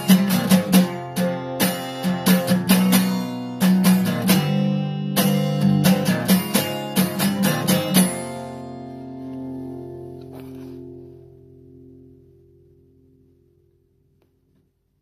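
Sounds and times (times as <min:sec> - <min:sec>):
acoustic guitar strumming: 0:00.0 - 0:13.7.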